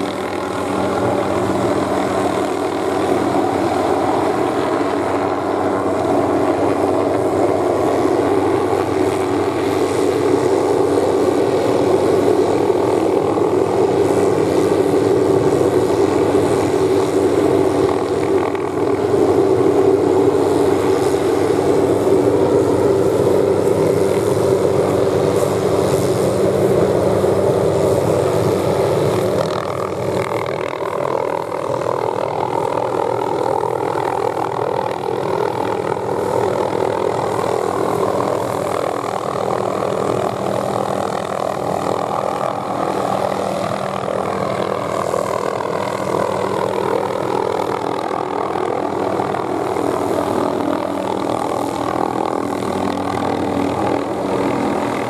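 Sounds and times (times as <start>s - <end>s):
helicopter flying overhead: 0.0s - 55.0s.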